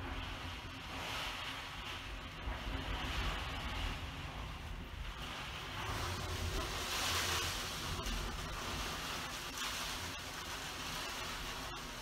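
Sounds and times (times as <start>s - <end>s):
wind gusting through window: 0.0s - 12.0s.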